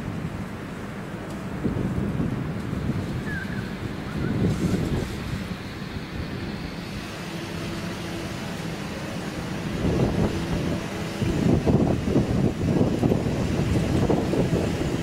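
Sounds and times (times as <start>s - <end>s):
heavy machine engine rumbling: 0.0s - 15.0s
wind buffeting microphone: 0.0s - 15.0s.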